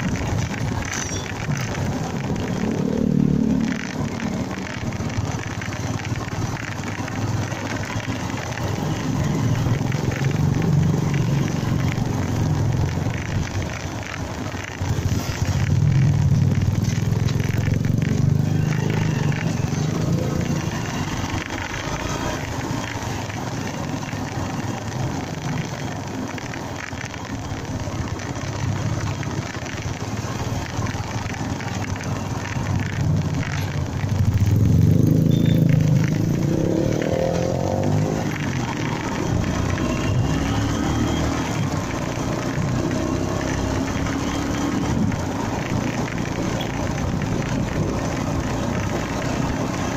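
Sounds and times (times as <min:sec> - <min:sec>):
motorcycle engine running: 0:00.0 - 0:49.9
riding noise: 0:00.0 - 0:49.9.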